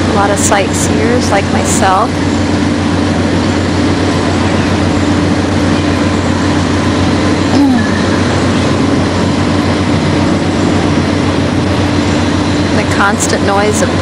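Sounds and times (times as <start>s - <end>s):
pumps droning: 0.0s - 14.0s.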